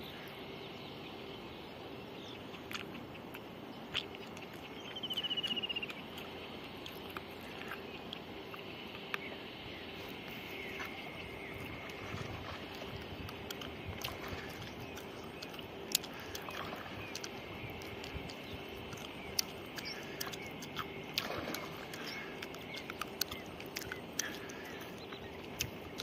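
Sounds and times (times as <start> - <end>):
pulsing hum: 0.0 - 26.0
faint high chirps: 4.2 - 26.0.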